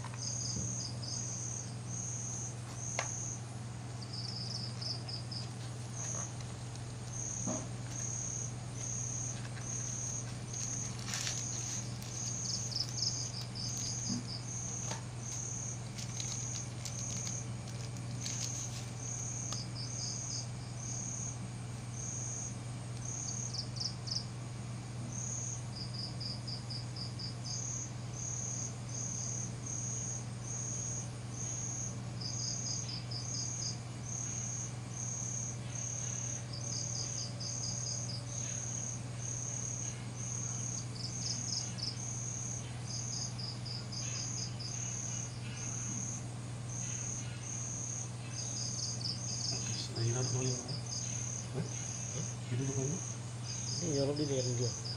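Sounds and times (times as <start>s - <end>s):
cricket chirping: 0.0s - 54.9s
steady low hum: 0.0s - 54.9s
insect rapid trills: 0.1s - 24.3s, 25.1s - 54.9s.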